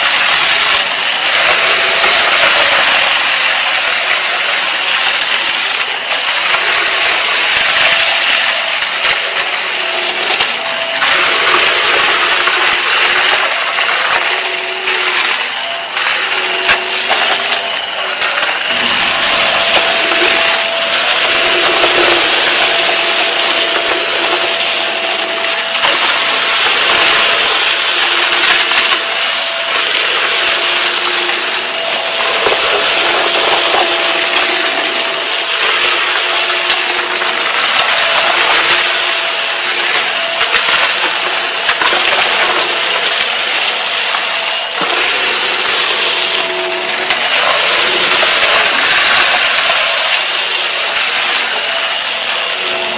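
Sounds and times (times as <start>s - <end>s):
confetti crunching and rattling: 0.0s - 52.9s
stick vacuum motor humming: 0.0s - 52.9s.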